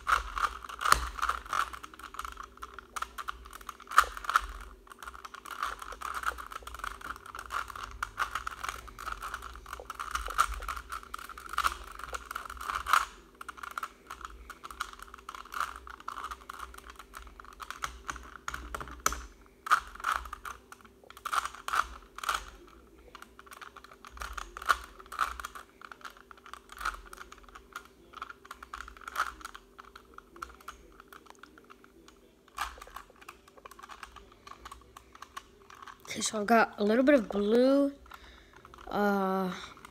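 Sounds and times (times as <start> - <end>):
plastic puzzle cube clicking: 0.0 - 36.2.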